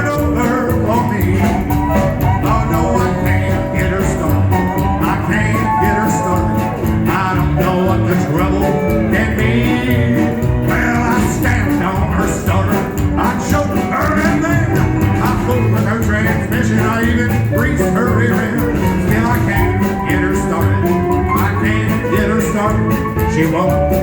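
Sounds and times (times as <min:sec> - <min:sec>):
live band playing rock and roll: 0:00.0 - 0:24.0.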